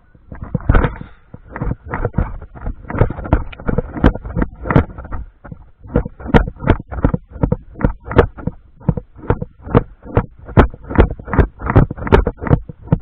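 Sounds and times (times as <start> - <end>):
brisk footsteps: 0.3 - 13.0.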